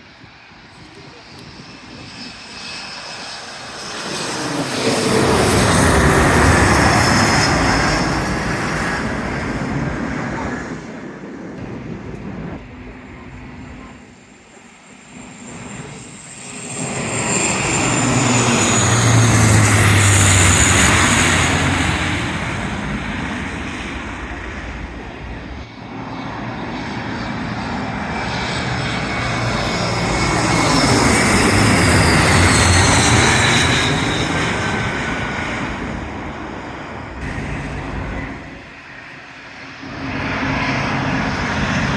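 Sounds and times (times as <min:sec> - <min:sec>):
jet airliners passing overhead: 0:00.0 - 0:41.9.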